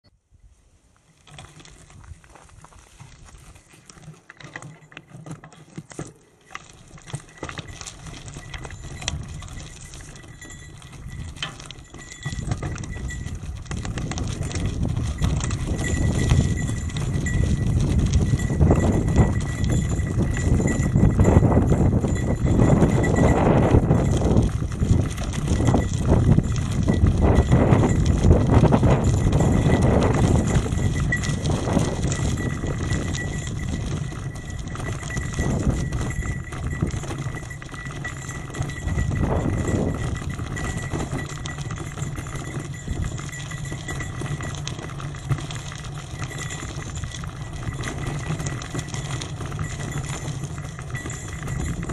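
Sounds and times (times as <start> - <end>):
bicycle tyre rumble: 1.0 - 4.0, 6.4 - 51.9
bike rattling and knocking: 1.2 - 51.9.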